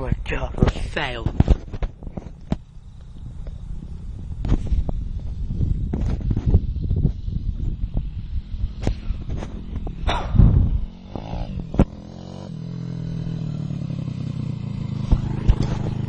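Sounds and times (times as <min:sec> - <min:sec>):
motorbike engine idling: 0:01.7 - 0:16.0.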